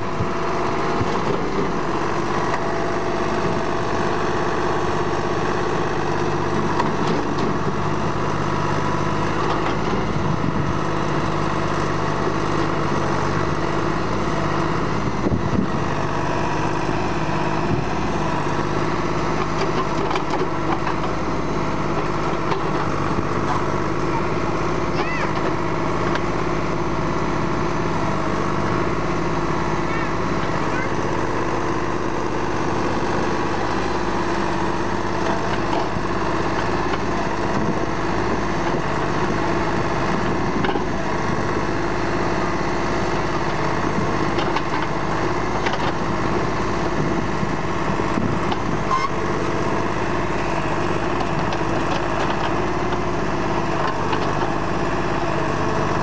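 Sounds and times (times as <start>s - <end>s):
backhoe digging soil: 0.0s - 56.0s
tractor diesel engine running: 0.0s - 56.0s.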